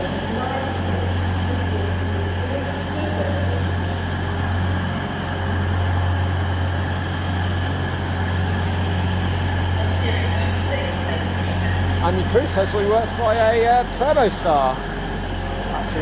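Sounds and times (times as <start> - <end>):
diesel train engines droning: 0.0 - 16.0.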